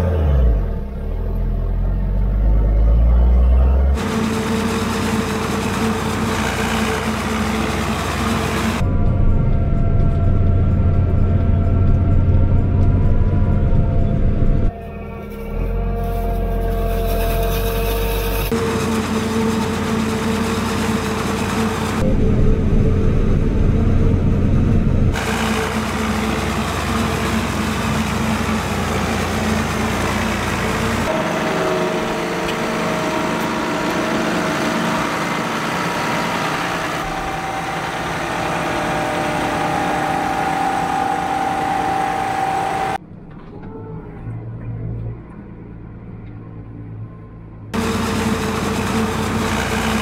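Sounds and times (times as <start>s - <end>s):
low engine hum: 0.0s - 50.0s
heavy farm machinery running: 3.2s - 43.0s, 47.8s - 50.0s.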